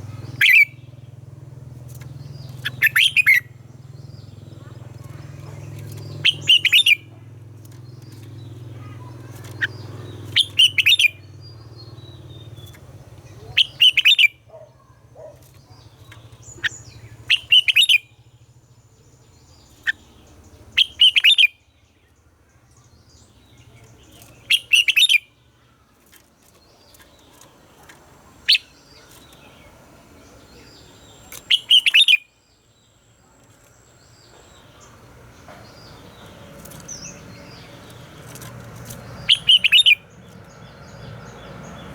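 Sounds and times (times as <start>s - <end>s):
bulbul singing song phrases: 0.0s - 41.9s.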